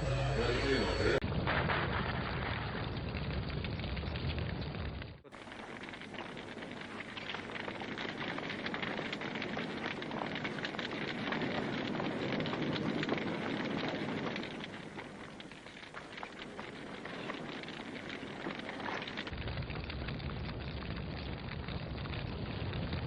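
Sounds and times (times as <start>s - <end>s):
dense continuous crackling: 0.4s - 23.0s.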